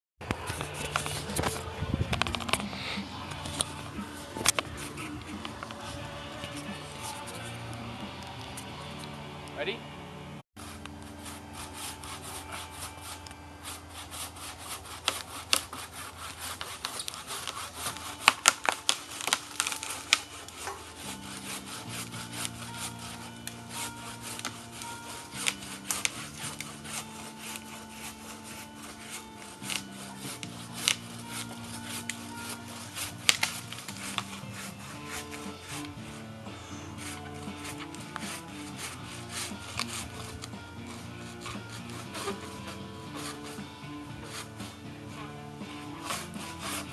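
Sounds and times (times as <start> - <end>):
hand saw cutting timber: 0.2 - 9.1, 10.6 - 46.9.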